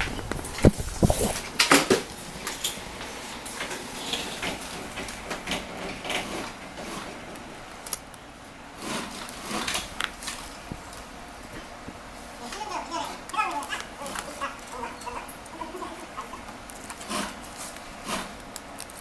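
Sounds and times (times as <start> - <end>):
shop background noise: 0.0 - 19.0.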